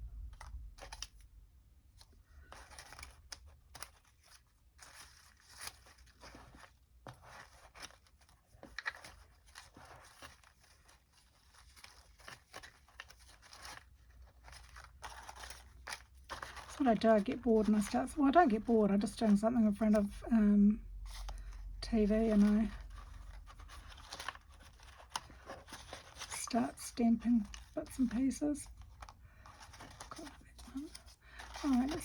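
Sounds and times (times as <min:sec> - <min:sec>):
paper pieces rustling and clicking: 0:00.3 - 0:01.3, 0:01.9 - 0:20.2, 0:21.0 - 0:32.0.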